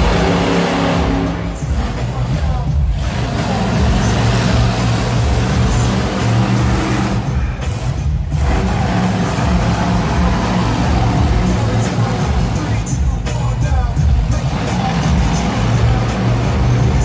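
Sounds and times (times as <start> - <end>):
arena music: 0.0 - 17.0
monster truck engine revving: 0.0 - 17.0.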